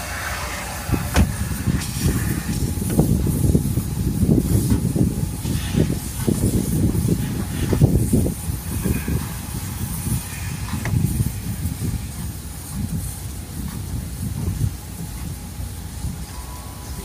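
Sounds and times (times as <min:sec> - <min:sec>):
vacuum suction hissing: 0:00.0 - 0:17.0.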